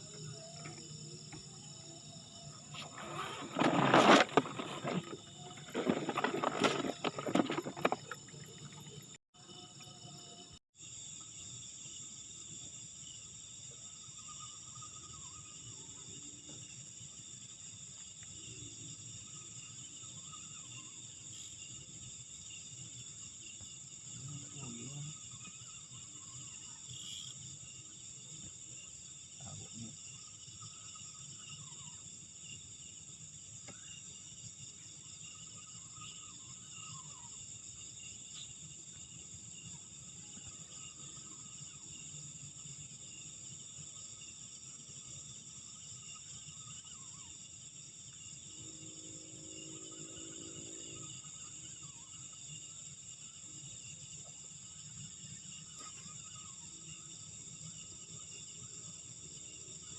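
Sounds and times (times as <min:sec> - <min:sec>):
night insects chirring: 0:00.0 - 0:59.9.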